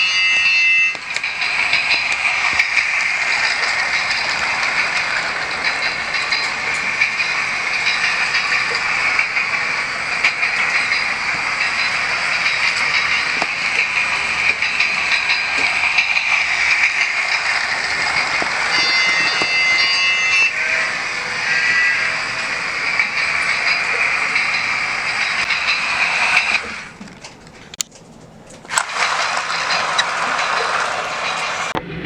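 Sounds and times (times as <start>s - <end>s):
toy train hissing: 0.0s - 27.8s, 28.7s - 31.8s.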